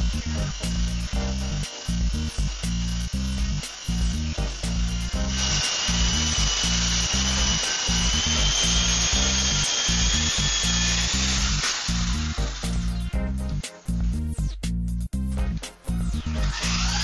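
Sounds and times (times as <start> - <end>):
small motor high-pitched whine: 0.0 - 14.3, 15.9 - 17.0
background music with steady beat: 0.0 - 17.0.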